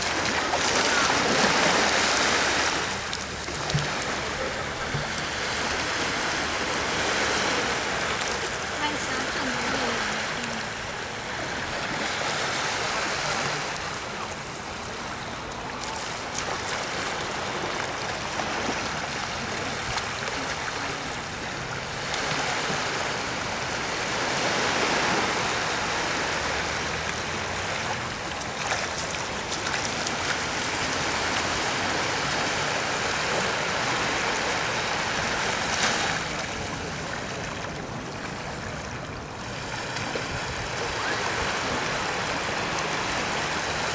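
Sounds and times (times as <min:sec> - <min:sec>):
small waves washing on shore: 0:00.0 - 0:43.9.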